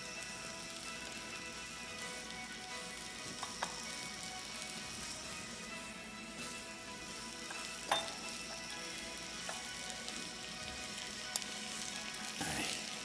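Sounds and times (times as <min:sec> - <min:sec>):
food sizzling in pans: 0:00.0 - 0:13.0.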